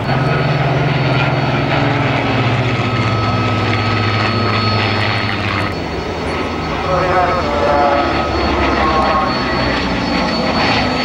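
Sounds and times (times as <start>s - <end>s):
piston aircraft engines droning: 0.0s - 11.0s.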